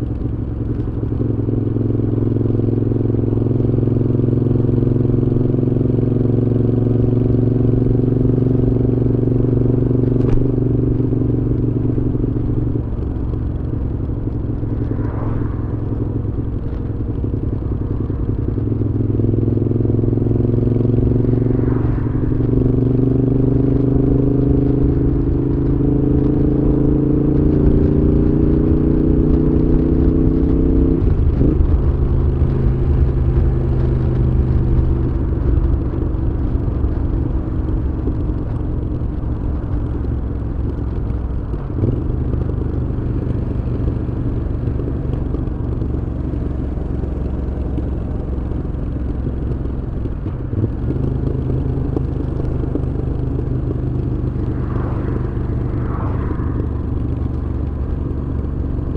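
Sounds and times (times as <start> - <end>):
motorcycle engine while riding: 0.0 - 58.9.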